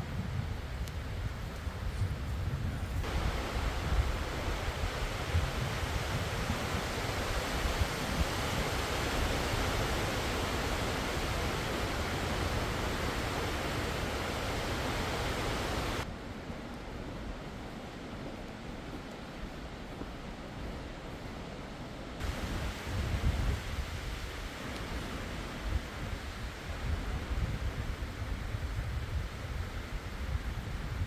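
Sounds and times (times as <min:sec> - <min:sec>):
blizzard wind rushing: 0:00.0 - 0:31.0.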